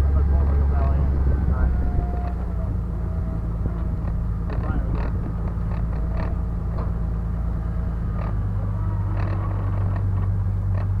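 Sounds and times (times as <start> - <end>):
vehicle engine rumbling: 0.0 - 11.0
vehicle body creaks and rattles: 0.4 - 11.0.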